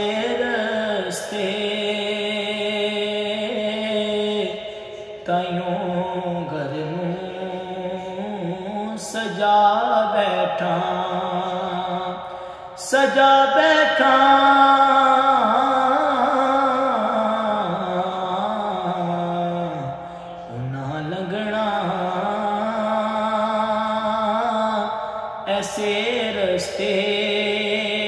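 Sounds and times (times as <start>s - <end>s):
young man singing unaccompanied: 0.0s - 28.0s.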